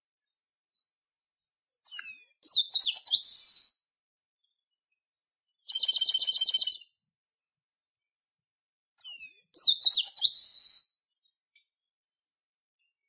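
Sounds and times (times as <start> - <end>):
bird singing: 0.2 - 3.8, 4.4 - 8.3, 9.0 - 13.0.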